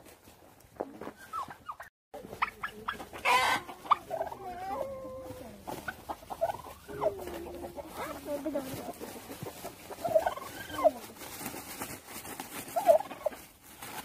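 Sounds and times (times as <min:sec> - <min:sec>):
turkeys and chickens clucking: 0:00.1 - 0:14.0.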